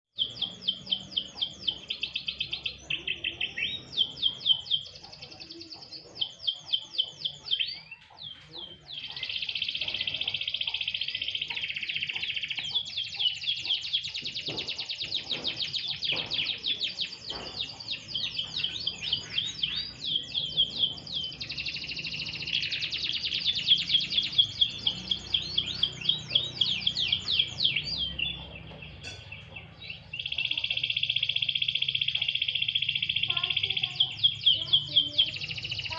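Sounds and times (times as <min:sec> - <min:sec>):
canary singing: 0:00.1 - 0:35.9.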